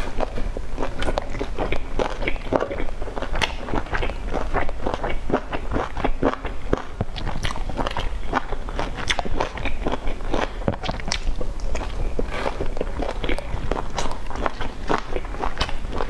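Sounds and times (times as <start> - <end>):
chewing with wet mouth clicks: 0.0 - 16.0.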